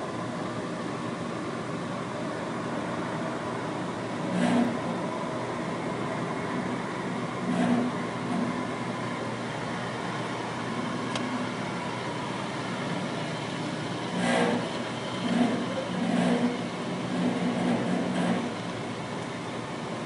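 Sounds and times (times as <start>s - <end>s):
refrigeration units humming: 0.0s - 20.0s.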